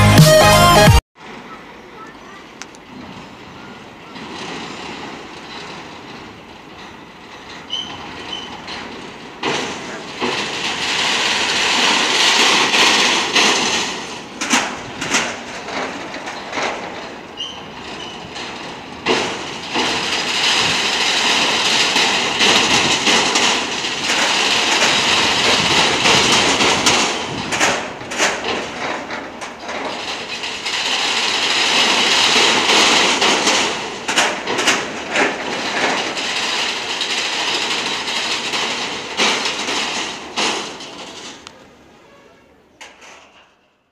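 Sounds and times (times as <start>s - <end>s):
train wheels rolling on rail: 1.2s - 43.9s
wheels clacking over rail joints: 1.2s - 43.9s.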